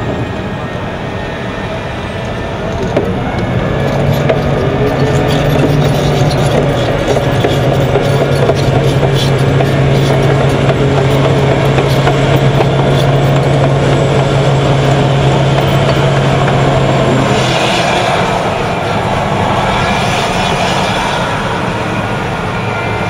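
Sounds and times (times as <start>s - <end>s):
steel tracks clattering: 0.0s - 23.0s
tank engine low drone: 0.0s - 23.0s.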